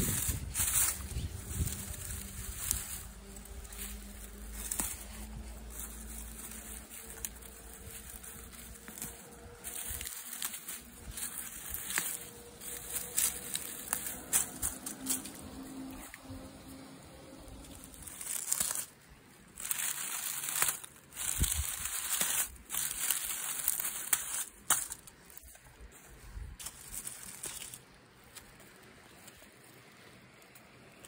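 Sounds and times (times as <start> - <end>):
dry leaves crunching: 0.0 - 31.0.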